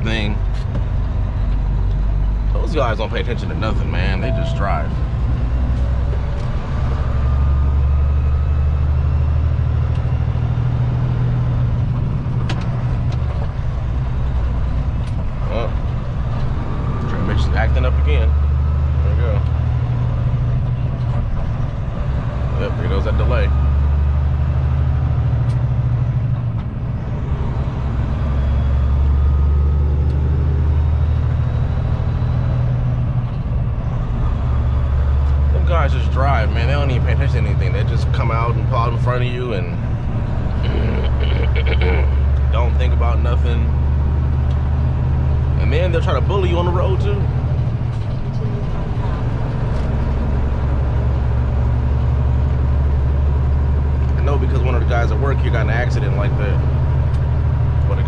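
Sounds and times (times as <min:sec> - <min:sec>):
truck diesel engine droning: 0:00.0 - 0:58.0.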